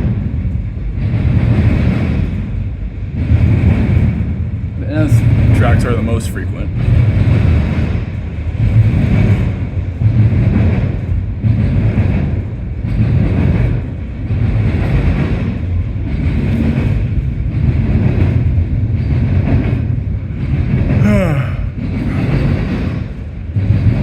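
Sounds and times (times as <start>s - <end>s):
freight train cars rumbling past: 0.0s - 24.0s.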